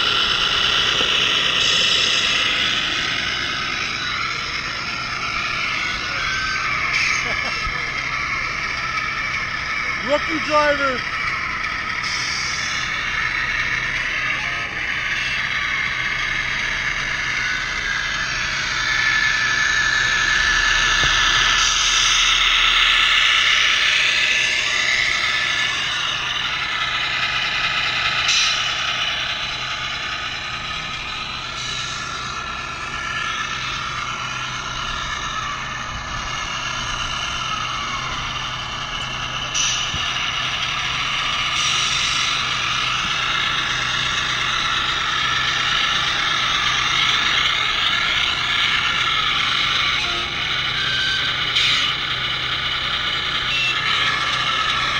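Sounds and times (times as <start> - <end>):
electric motor whine: 0.0 - 54.9.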